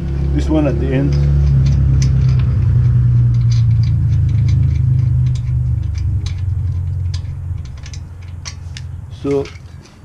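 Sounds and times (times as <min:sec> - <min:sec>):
low hum: 0:00.0 - 0:10.0
wrench metallic ticking: 0:00.0 - 0:10.0.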